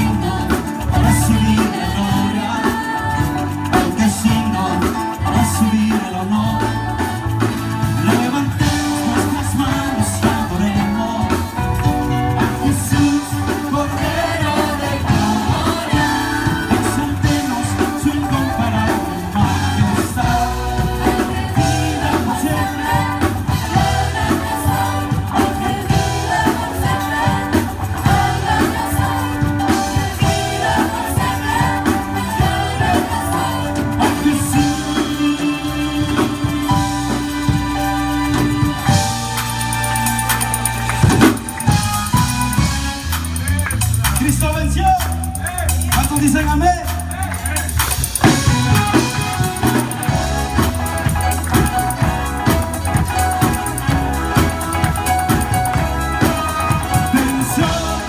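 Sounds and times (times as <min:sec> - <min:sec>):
people singing into microphones: 0:00.0 - 0:40.6, 0:45.5 - 0:58.0
drums: 0:00.0 - 0:58.0
keyboard: 0:00.0 - 0:58.0.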